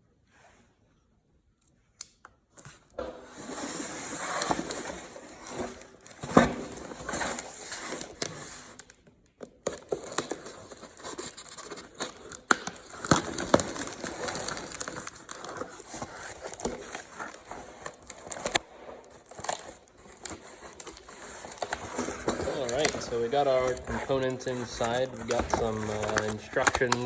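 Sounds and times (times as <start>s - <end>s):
cardboard rustling and tearing: 3.4s - 8.9s, 9.5s - 27.0s.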